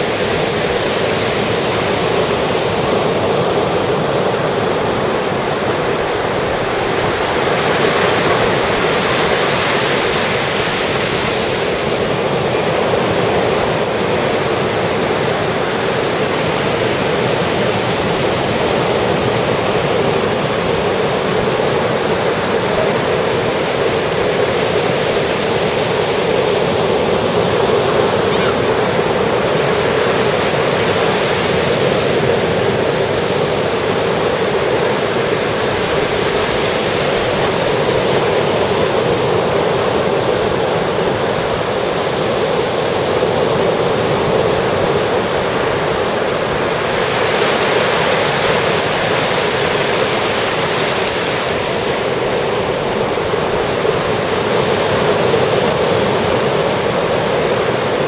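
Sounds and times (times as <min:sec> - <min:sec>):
ocean waves washing up beach: 0:00.0 - 0:58.0.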